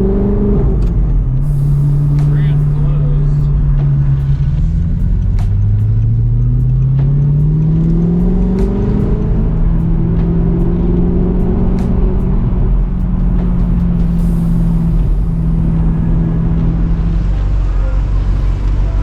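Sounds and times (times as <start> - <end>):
car engine accelerating: 0.0 - 19.0
road rumble: 0.0 - 19.0.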